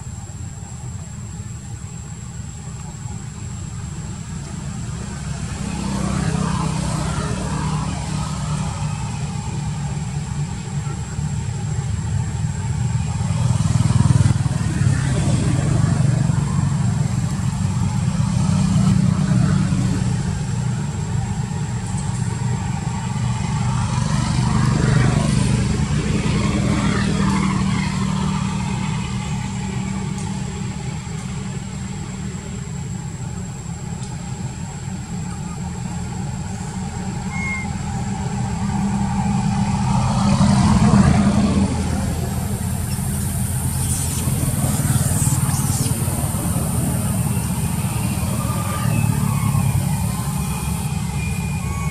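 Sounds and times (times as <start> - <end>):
vehicle engines humming: 0.0 - 51.9
vehicles passing by: 0.0 - 51.9.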